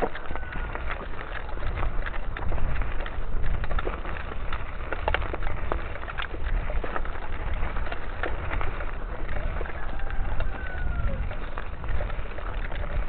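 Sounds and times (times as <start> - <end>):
bike tyres crunching gravel: 0.0 - 13.0.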